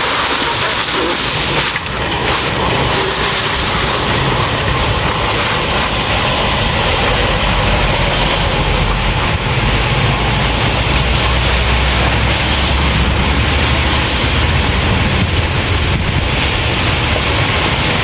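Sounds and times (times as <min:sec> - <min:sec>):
deep low rumble: 0:00.0 - 0:18.0
heavy rain: 0:00.0 - 0:18.0.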